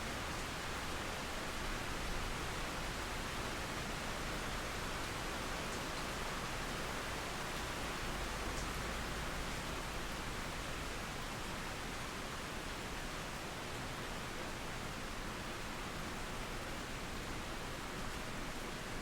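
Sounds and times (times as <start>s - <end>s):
rain falling through trees: 0.0s - 19.0s.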